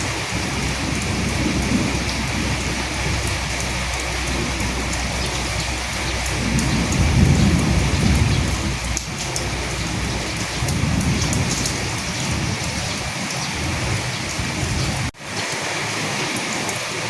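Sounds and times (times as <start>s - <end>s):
low thunder rumble: 0.0s - 15.2s
raindrops ticking: 0.0s - 17.0s
steady rain: 0.0s - 17.0s.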